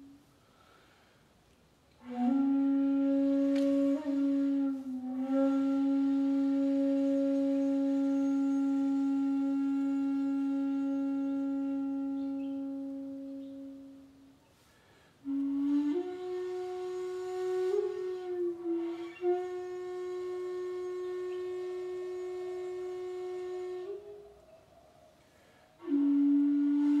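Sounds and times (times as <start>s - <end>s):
flute notes: 0.0s - 0.8s, 1.9s - 27.0s.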